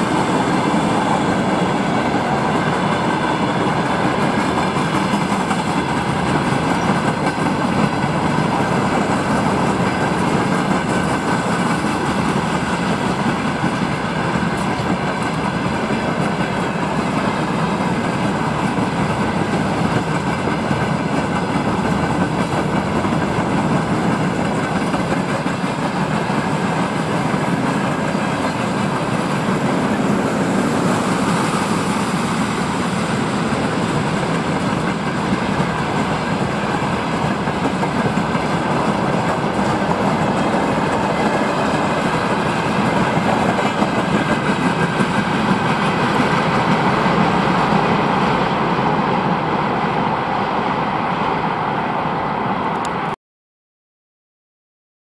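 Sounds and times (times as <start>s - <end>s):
train wheels on track: 0.0s - 53.2s.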